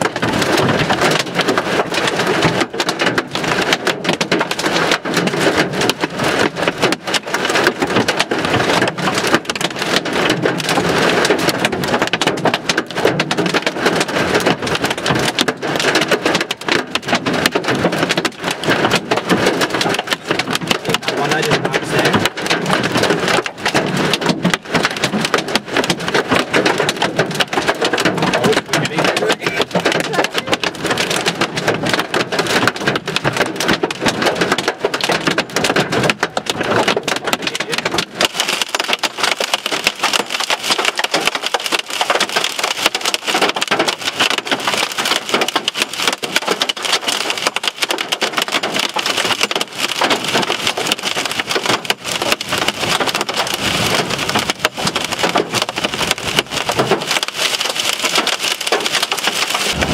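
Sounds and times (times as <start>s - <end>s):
hail pelting vehicle roof: 0.0s - 59.9s.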